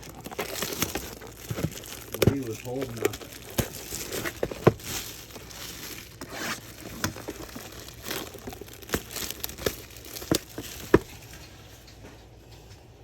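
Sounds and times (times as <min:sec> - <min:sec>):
plastic wrapping crinkling and tearing: 0:00.0 - 0:12.4.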